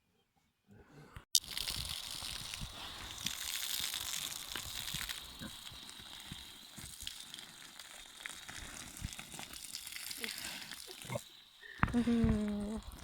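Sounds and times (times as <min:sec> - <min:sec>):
garden hose spraying water: 0:01.4 - 0:13.0.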